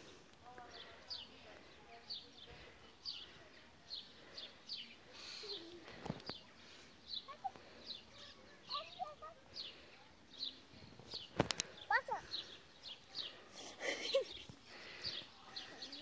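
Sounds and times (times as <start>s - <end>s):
small bird chirping: 0.8s - 16.0s.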